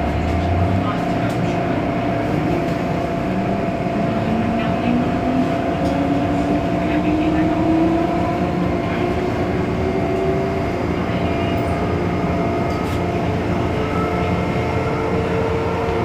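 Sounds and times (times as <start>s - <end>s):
train wheel and track rumble: 0.0s - 16.0s.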